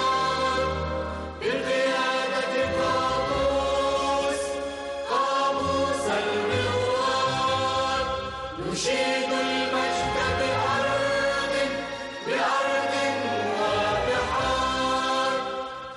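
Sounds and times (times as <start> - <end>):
choir singing: 0.0 - 15.9.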